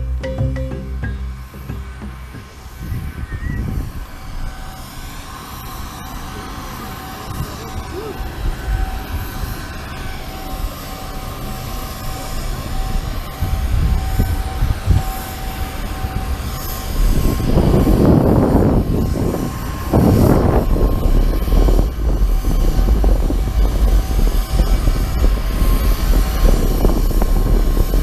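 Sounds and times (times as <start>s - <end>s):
airliner engines rumbling in cabin: 0.0s - 28.0s.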